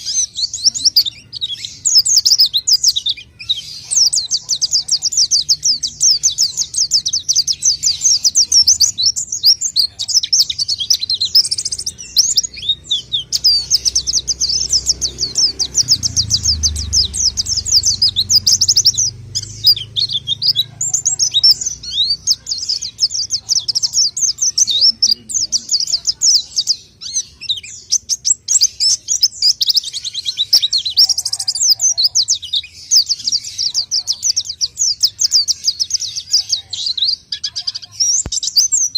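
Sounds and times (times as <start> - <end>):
bird singing high-pitched chirps: 0.0 - 38.9.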